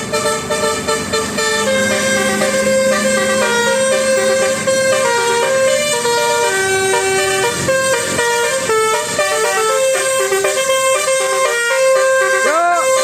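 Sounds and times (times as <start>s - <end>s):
musical air horn tune: 0.0s - 13.0s.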